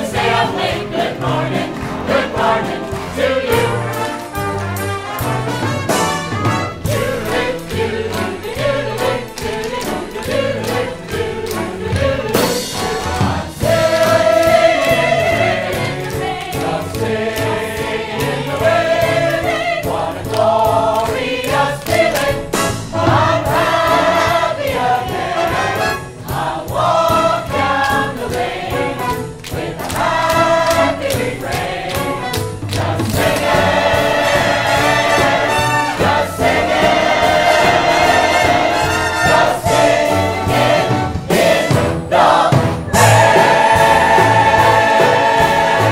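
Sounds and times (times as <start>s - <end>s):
chorus singing: 0.0s - 45.9s
instrumental accompaniment: 0.0s - 45.9s.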